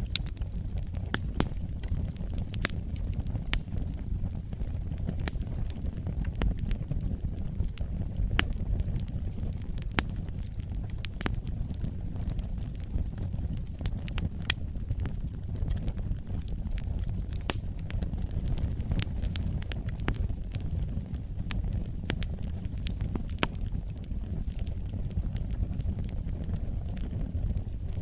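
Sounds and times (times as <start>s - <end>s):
campfire crackling and popping: 0.0s - 28.0s
steady low rumble: 0.0s - 28.0s.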